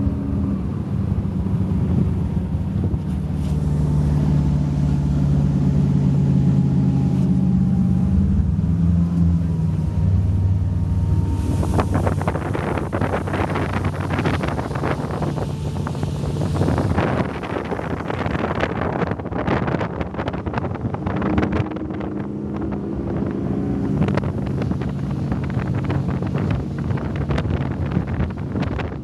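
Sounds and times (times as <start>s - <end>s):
powerboat engines running: 0.0s - 29.0s
wind buffeting microphone: 0.0s - 29.0s.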